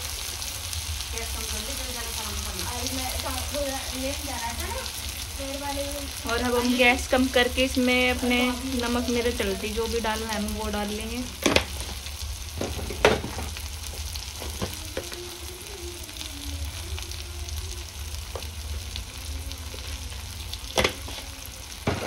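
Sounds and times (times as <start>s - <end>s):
masala sizzling in a pan: 0.0s - 22.0s.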